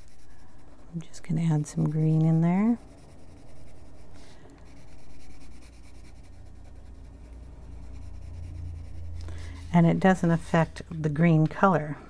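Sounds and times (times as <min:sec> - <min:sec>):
colored pencil scratching on paper: 0:00.0 - 0:11.9
steady low hum: 0:00.0 - 0:12.0.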